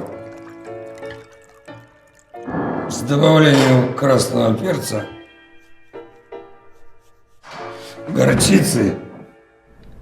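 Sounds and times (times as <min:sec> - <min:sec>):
piano music: 0:00.0 - 0:09.9.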